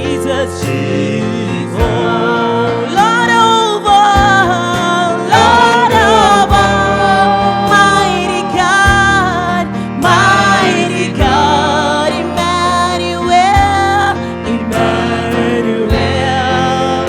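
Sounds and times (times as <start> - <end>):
gospel worship song: 0.0 - 17.0.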